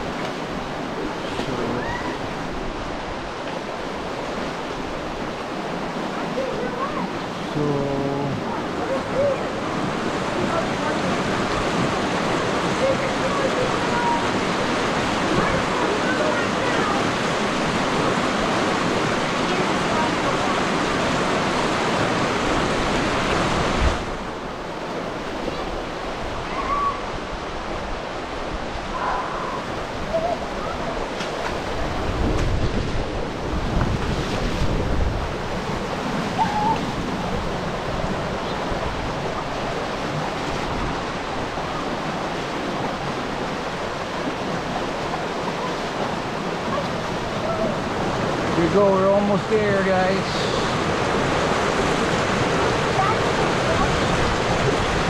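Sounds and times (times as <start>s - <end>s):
creek water rushing: 0.0s - 55.0s
deep water rumble: 0.0s - 55.0s.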